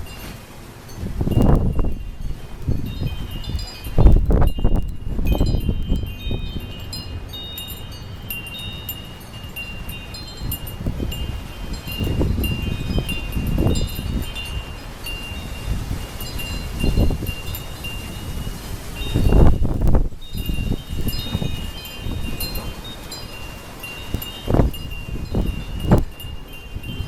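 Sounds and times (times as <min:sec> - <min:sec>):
wind chimes ringing: 0:00.0 - 0:27.0
wind gusts on microphone: 0:00.0 - 0:27.0.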